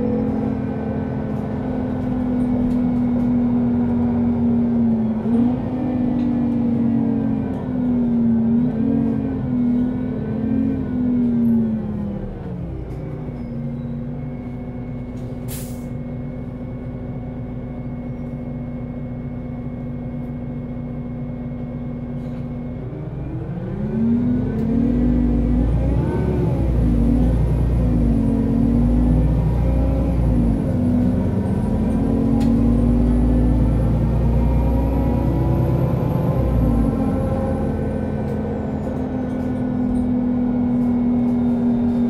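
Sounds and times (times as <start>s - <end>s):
bus diesel engine under load: 0.0s - 42.0s.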